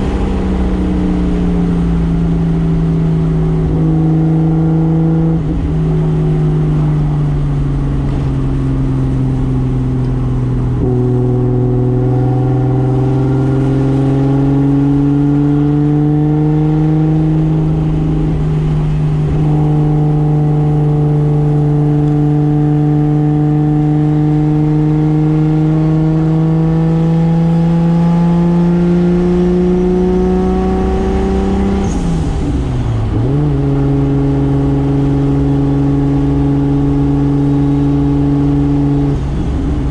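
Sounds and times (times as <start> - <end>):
car engine pulling through gears: 0.0 - 39.9.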